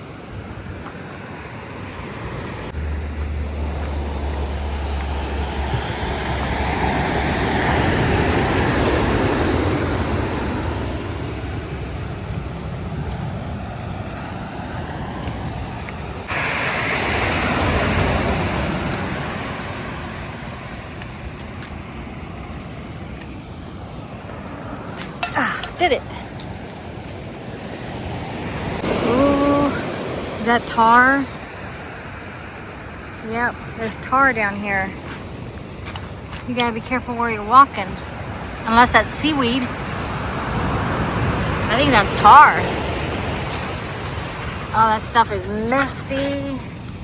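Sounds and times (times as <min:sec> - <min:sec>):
ocean surf washing onto beach: 0:00.0 - 0:47.0
wind rumble on microphone: 0:00.0 - 0:47.0.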